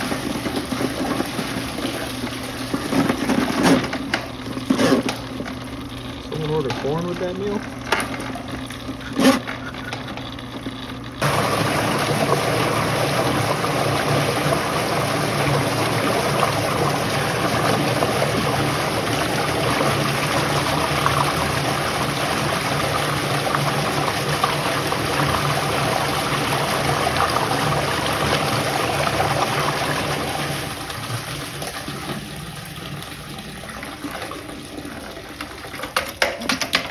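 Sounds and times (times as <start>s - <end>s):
water rushing through drain: 0.0s - 36.8s.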